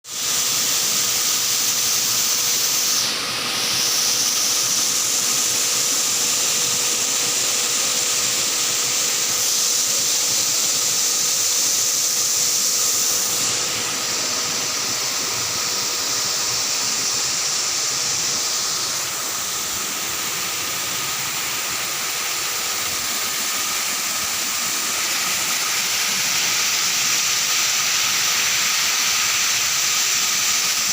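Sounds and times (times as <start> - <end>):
compressor unit hissing: 0.0 - 30.9.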